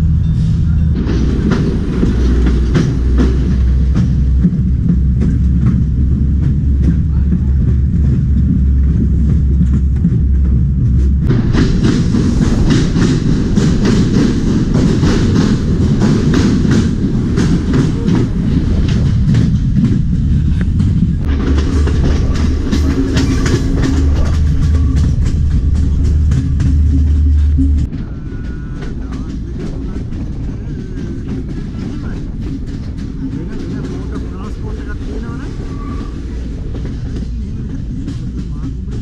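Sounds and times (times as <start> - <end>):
train low rumble: 0.0 - 39.0.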